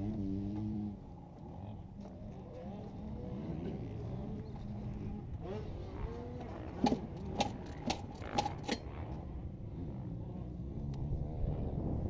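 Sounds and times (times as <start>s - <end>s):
two-stroke dirt bike engine running: 0.0s - 10.3s.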